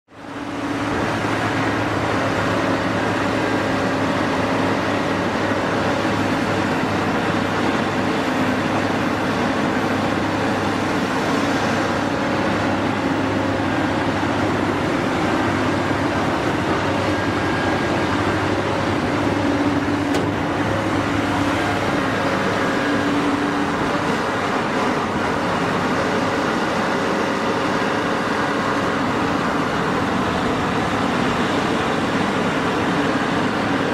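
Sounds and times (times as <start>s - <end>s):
excavator diesel engine droning: 0.1s - 33.9s.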